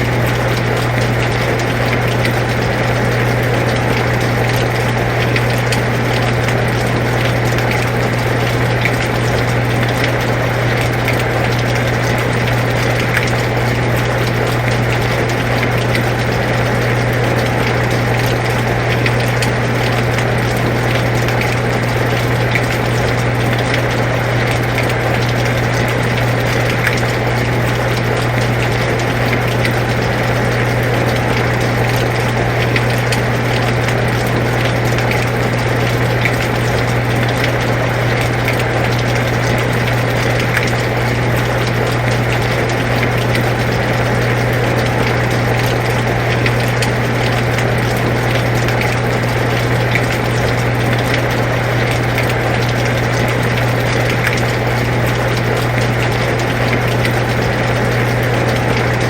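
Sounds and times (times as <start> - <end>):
air conditioner humming: 0.0 - 59.0
drops ticking: 0.0 - 59.0
rain falling: 0.0 - 59.0.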